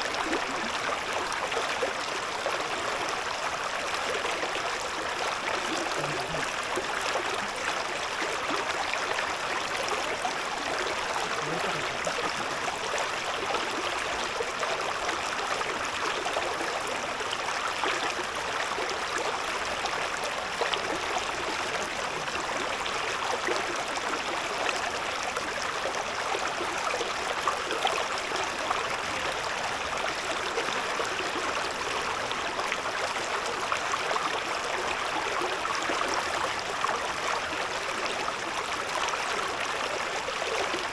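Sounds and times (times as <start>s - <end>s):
river babbling over stones: 0.0s - 40.9s.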